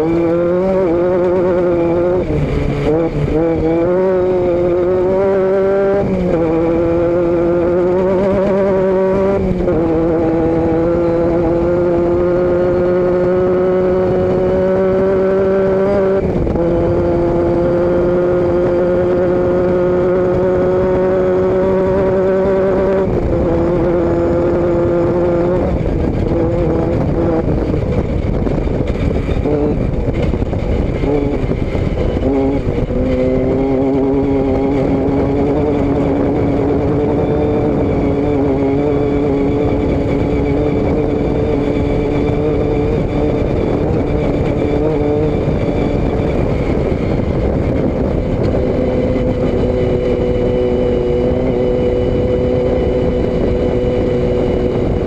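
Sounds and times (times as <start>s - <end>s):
vehicle engine and exhaust: 0.0s - 55.0s
wind and road noise: 0.0s - 55.0s.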